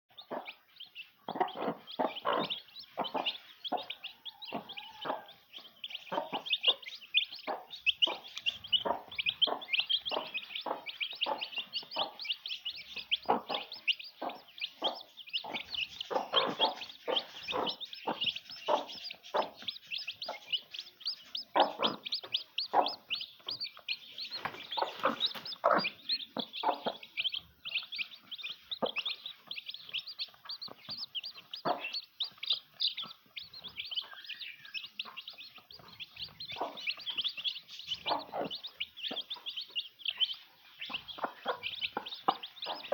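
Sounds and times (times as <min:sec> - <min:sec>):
chickens chirping and clucking: 0:00.1 - 0:42.9.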